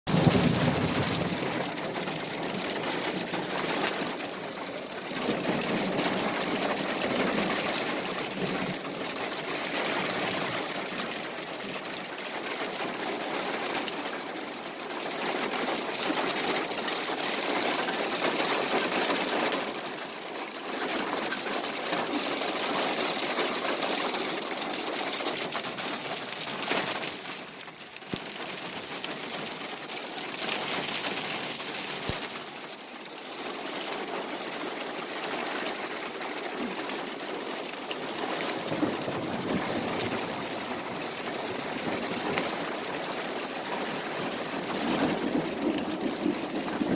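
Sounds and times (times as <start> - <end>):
heavy rain pouring: 0.1 - 46.9.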